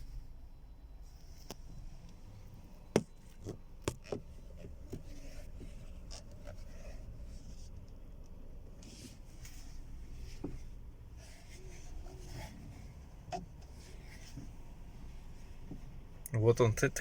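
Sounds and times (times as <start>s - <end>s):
steering wheel clicking: 1.4s - 8.9s, 9.5s - 17.0s.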